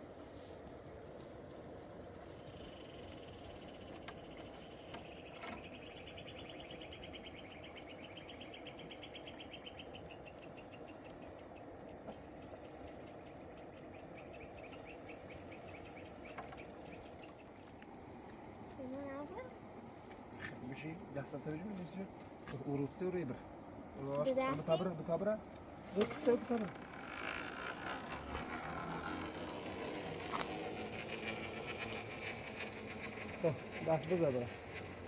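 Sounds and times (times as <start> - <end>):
small birds chirping: 1.6 - 35.0.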